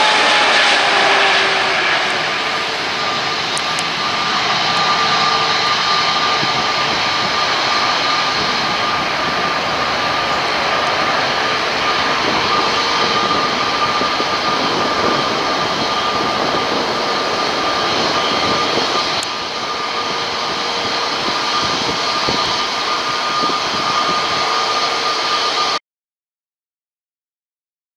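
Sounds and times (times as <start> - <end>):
jet engine roar with whine: 0.0 - 25.8.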